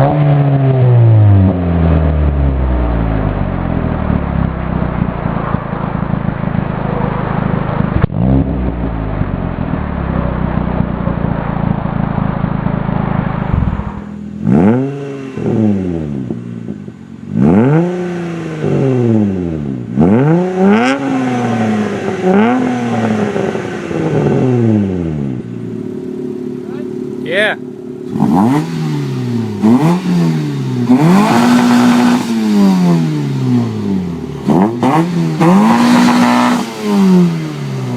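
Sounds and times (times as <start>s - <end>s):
car engine revving: 0.0s - 37.9s
car engine idling: 1.6s - 37.9s.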